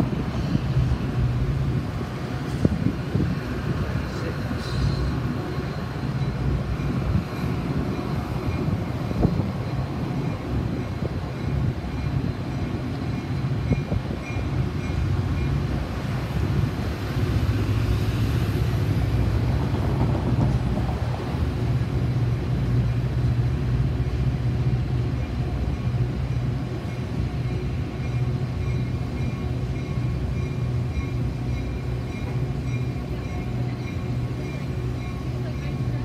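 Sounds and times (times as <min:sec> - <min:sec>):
train engine hum: 0:00.0 - 0:36.0
train rumble: 0:00.0 - 0:36.0.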